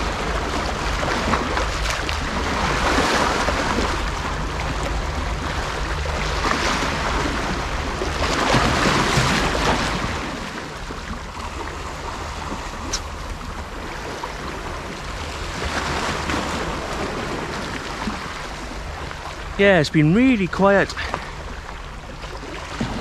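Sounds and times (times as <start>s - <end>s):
waves breaking on rocks: 0.0s - 23.0s.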